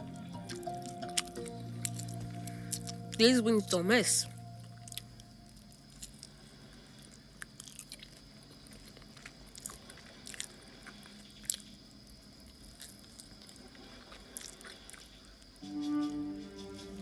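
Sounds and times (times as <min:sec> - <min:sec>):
person chewing wetly: 0:00.4 - 0:03.1, 0:04.7 - 0:15.6.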